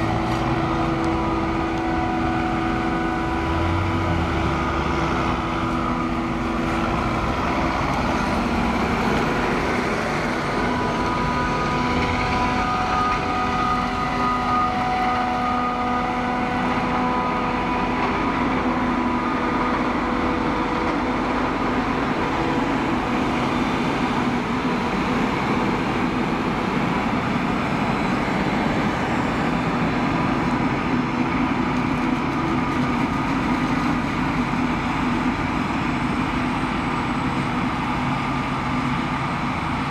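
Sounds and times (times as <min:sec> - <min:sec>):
heavy diesel machinery: 0:00.0 - 0:39.9.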